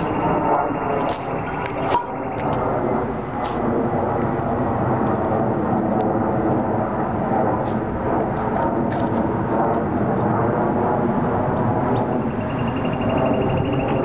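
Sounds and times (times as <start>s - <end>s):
jet airliner flying overhead: 0.0s - 14.0s.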